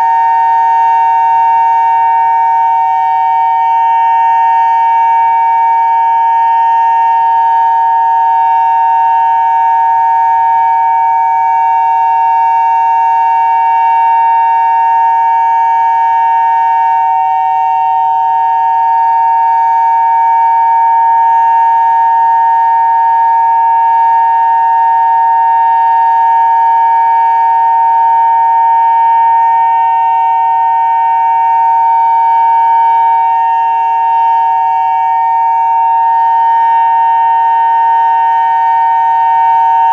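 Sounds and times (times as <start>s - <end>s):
two-note warning siren: 0.0s - 39.9s.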